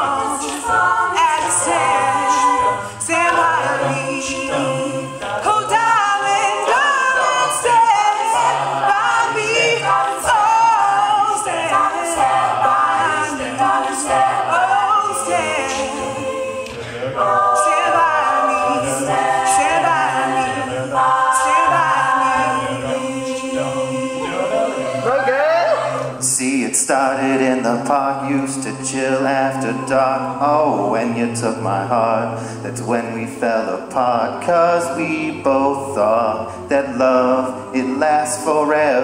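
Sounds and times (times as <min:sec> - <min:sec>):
a cappella group singing: 0:00.0 - 0:39.0
vocal percussion beat: 0:00.0 - 0:39.0.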